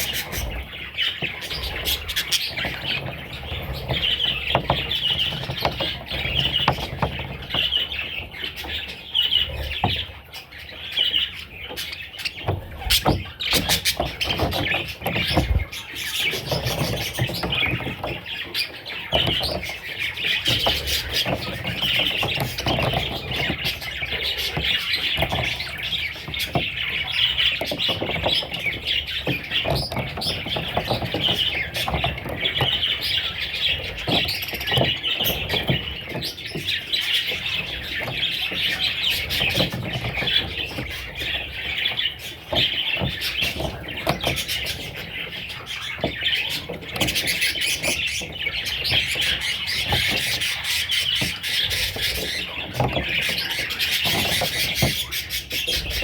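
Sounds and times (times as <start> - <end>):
small clicks and scratches: 0.0 - 56.0
young parrots chirping: 0.0 - 56.0.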